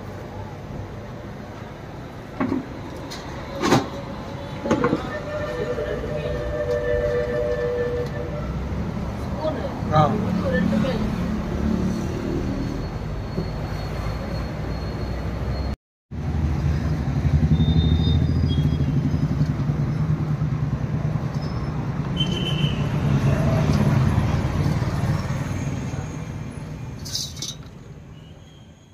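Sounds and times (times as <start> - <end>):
vehicle engine rumbling: 0.0 - 28.2
street traffic: 0.0 - 28.9.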